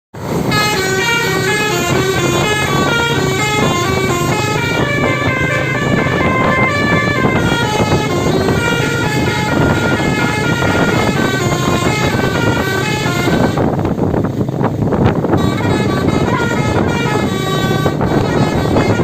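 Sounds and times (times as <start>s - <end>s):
bus horn playing melody: 0.2s - 13.8s, 15.2s - 19.0s
low steady rumble: 0.2s - 19.0s.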